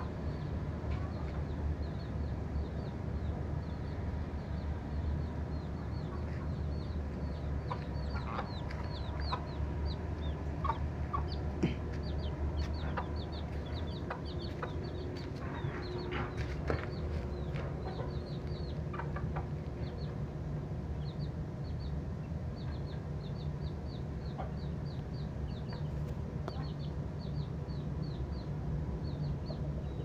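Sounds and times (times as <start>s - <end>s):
birds chirping high: 0.0s - 30.0s
steady low hum: 0.0s - 30.0s.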